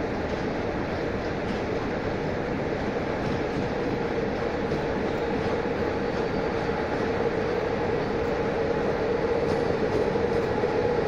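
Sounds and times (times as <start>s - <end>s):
electric locomotive hum and rumble: 0.0s - 11.0s.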